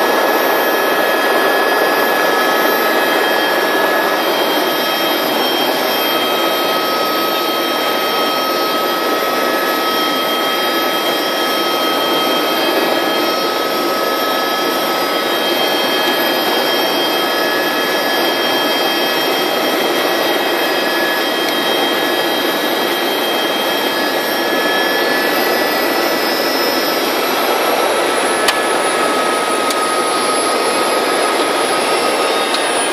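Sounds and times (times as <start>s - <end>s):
helicopter cabin drone: 0.0s - 32.9s
high whine sliding down: 0.0s - 32.9s.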